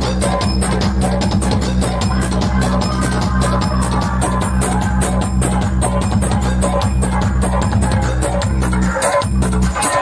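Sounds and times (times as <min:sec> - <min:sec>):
loud dance music: 0:00.0 - 0:10.0.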